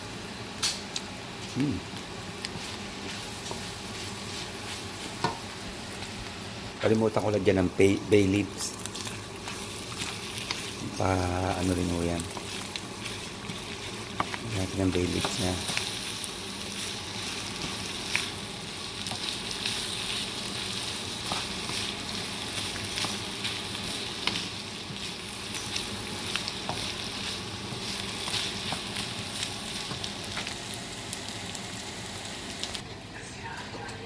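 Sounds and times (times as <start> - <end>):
food sizzling in a wok: 0.0 - 33.5.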